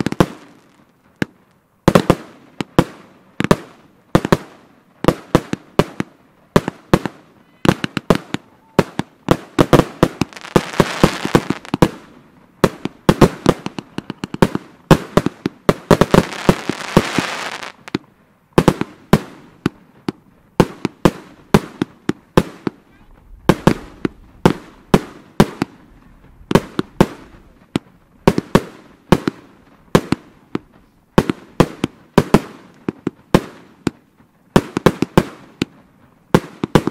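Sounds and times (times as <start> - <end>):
firework crackling: 0.0 - 36.9
fireworks banging: 0.0 - 36.9.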